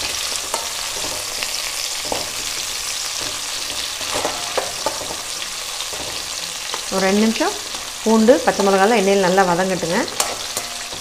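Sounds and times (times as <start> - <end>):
spatula scraping metal pan: 0.0 - 9.1, 9.8 - 11.0
vegetables sizzling in hot oil: 0.0 - 11.0.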